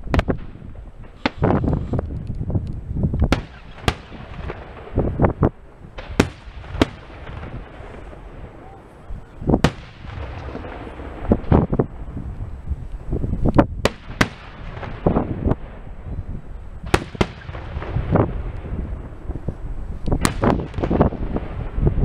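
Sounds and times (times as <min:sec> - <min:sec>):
firework bangs and cracks: 0:00.0 - 0:08.9, 0:09.5 - 0:16.2, 0:16.8 - 0:22.0.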